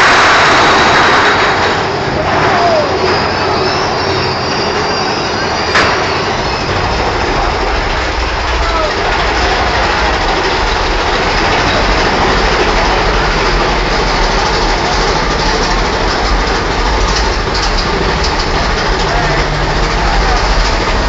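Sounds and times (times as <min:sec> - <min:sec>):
roller coaster rumbling on track: 0:00.0 - 0:21.0.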